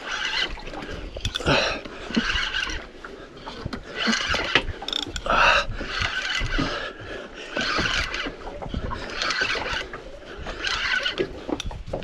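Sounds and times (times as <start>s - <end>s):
fishing reel clicking: 0.0s - 12.0s.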